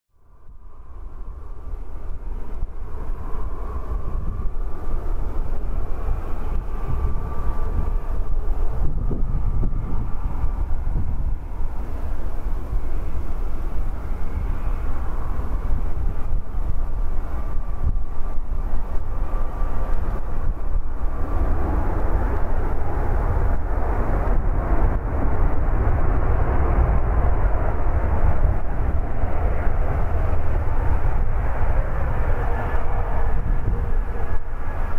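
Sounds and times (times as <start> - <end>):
faint high jet whine: 0.1 - 34.9
low jet rumble: 0.1 - 34.9.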